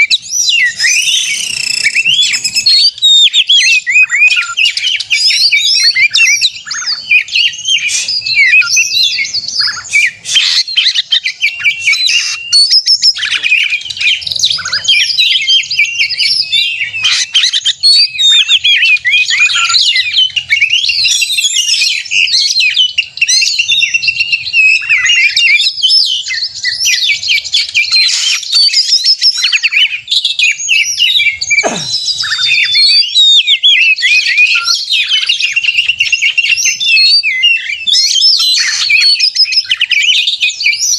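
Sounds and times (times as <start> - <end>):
bird singing chirps and trills: 0.0 - 40.9
long falling bird whistle: 0.0 - 40.9.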